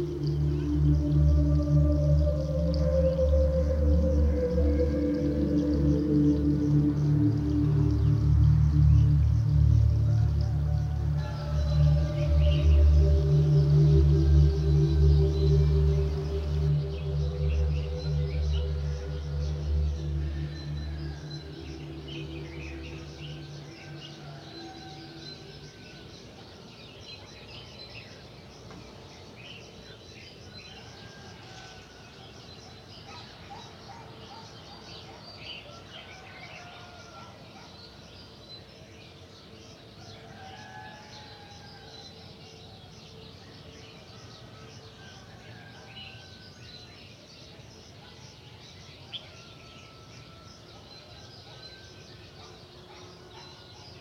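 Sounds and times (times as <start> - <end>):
small birds chirping: 0.0 - 54.0
steady background hiss: 0.0 - 54.0.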